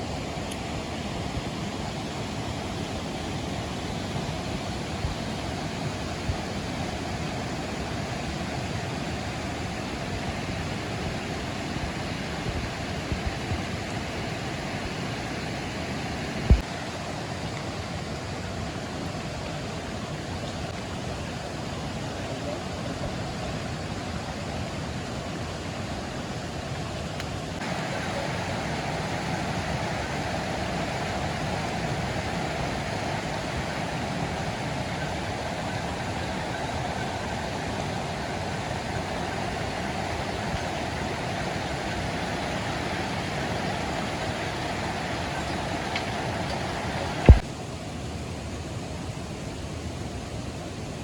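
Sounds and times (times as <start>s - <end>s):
rushing water: 0.0s - 51.0s.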